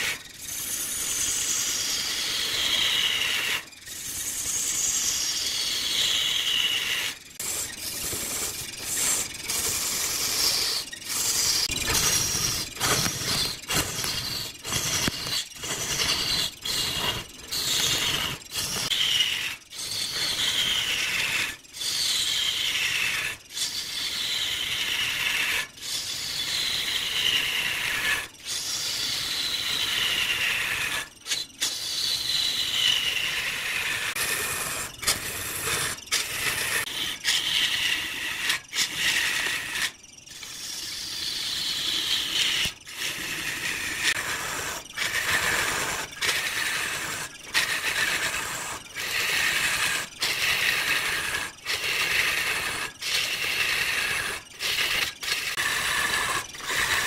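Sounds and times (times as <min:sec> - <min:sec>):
lathe tool scraping wood: 0:00.0 - 0:57.0.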